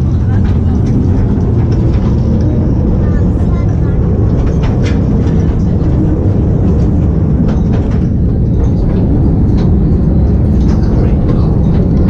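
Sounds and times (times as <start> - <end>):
mine cars rumbling on track: 0.0 - 12.0
sharp clacks of rails: 0.0 - 12.0.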